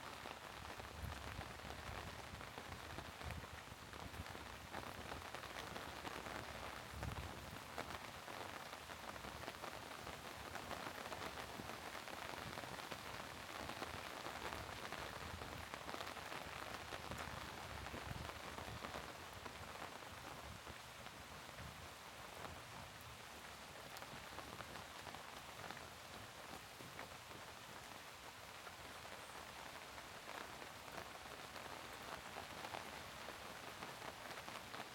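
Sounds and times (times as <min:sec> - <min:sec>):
rain pattering on hard surfaces: 0:00.0 - 0:34.9.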